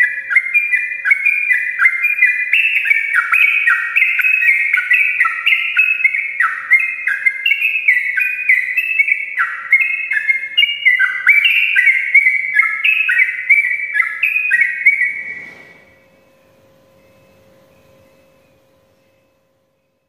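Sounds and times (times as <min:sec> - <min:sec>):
bulbul singing: 0:00.0 - 0:15.3, 0:15.9 - 0:20.0
faint steady hum: 0:00.0 - 0:20.0.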